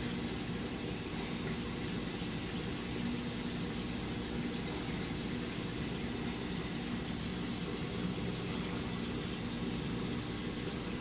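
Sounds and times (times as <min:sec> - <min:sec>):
aquarium pumps humming: 0:00.0 - 0:11.0
water circulation hissing: 0:00.0 - 0:11.0.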